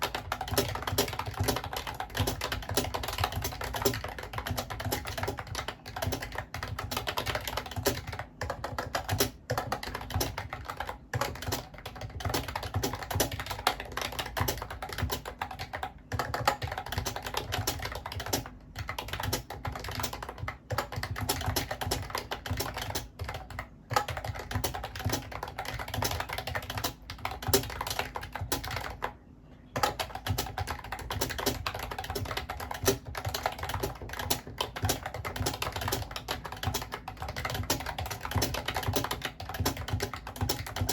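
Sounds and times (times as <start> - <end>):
keyboard keys clacking: 0.0 - 40.9.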